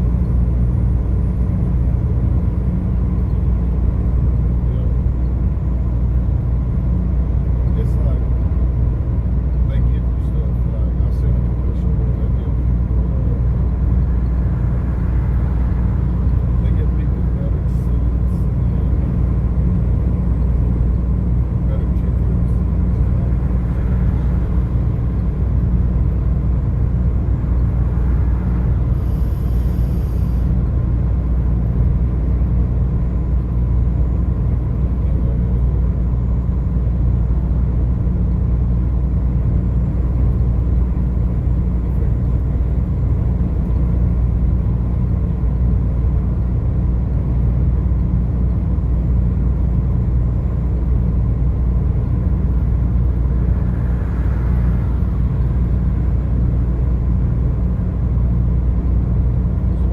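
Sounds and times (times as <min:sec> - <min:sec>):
car driving on highway rumble: 0:00.0 - 0:59.9.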